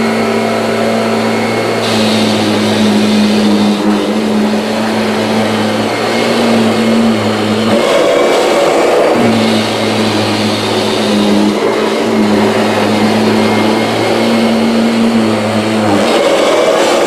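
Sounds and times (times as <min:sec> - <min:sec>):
upright vacuum cleaner motor hum: 0:00.0 - 0:17.0.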